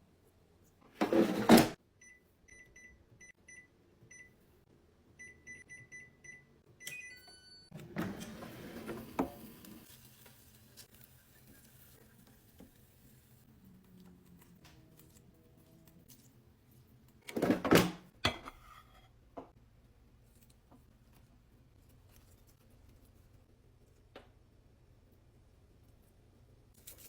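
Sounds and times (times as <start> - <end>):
faint appliance hum: 0.0 - 27.0.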